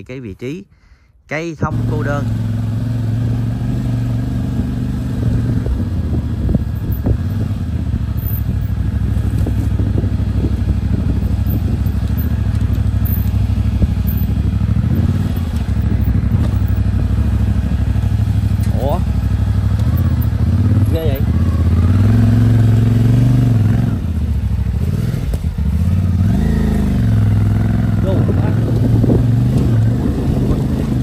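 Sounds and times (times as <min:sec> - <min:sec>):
motorcycle engine running at low revs: 0:01.7 - 0:31.0.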